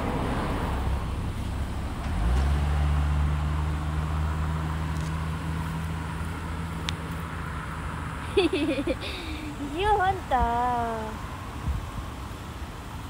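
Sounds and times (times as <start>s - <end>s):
low rumble of traffic: 0.0s - 13.0s
vehicle engine hum: 0.0s - 13.0s.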